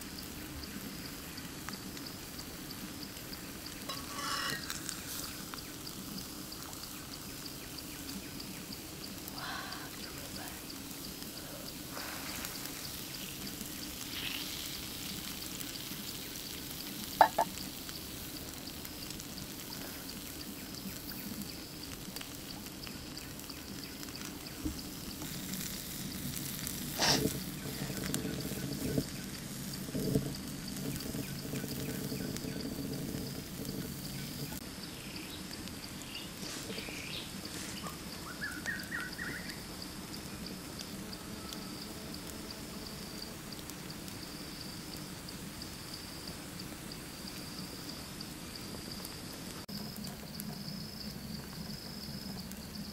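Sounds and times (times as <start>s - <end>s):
liver sizzling on hot stone: 0.0s - 52.9s.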